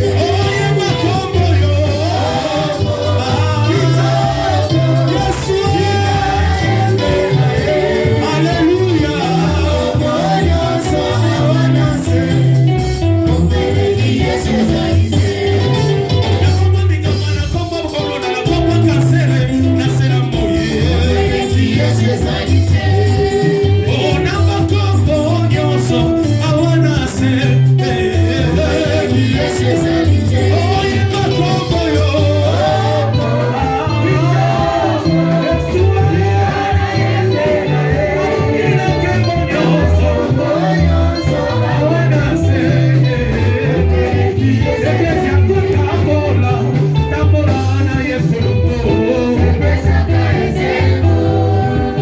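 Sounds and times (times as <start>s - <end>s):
bass guitar line: 0.0s - 52.0s
gospel band music: 0.0s - 52.0s
guitar: 0.0s - 52.0s
person singing: 0.0s - 52.0s.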